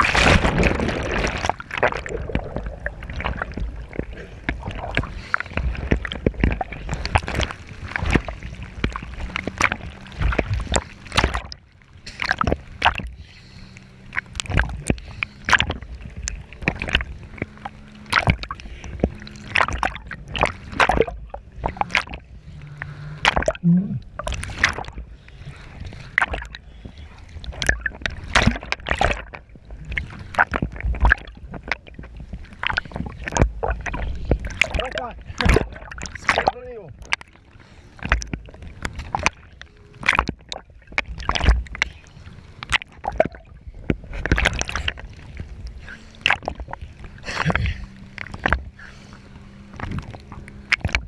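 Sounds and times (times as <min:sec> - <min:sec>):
jet ski engine hum: 0:00.0 - 0:51.0
water splashing and slapping: 0:00.0 - 0:51.0.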